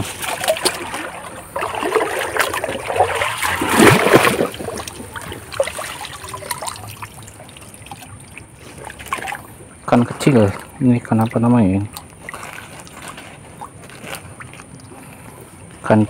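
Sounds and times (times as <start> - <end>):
shallow river water trickling: 0.0 - 16.0.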